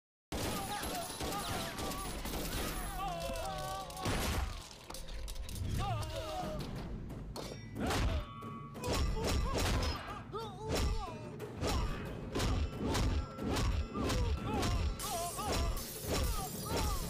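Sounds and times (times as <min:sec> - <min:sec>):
film background score: 0:00.3 - 0:17.0.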